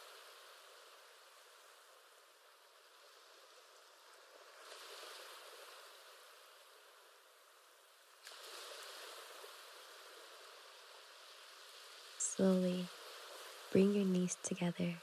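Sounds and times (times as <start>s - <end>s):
faint ocean waves: 0.0s - 15.0s.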